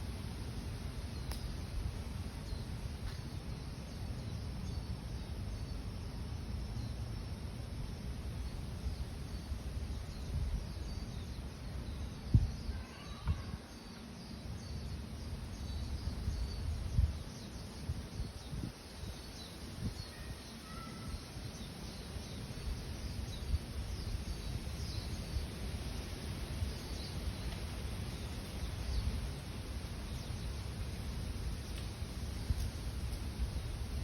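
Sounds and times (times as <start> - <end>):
birds or insects chirping: 0.0 - 34.0.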